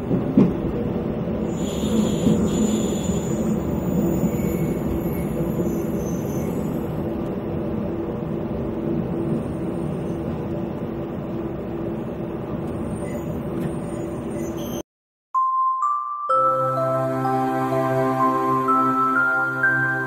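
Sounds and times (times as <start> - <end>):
diesel railcar engine hum: 0.0 - 14.8, 16.6 - 20.0.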